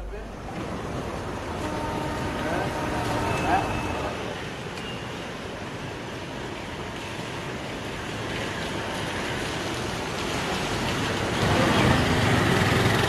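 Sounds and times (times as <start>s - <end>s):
floodwater rushing: 0.0s - 13.0s
heavy rain: 0.0s - 13.0s.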